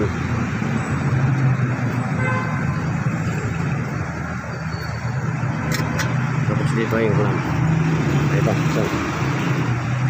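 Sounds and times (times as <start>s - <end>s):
low rumble of motor traffic: 0.0s - 10.0s.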